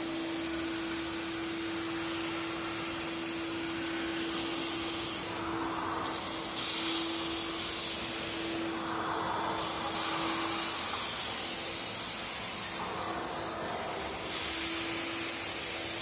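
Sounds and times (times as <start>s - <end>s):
vacuum cleaner humming: 0.0s - 16.0s
vacuum nozzle hissing on concrete: 0.5s - 16.0s.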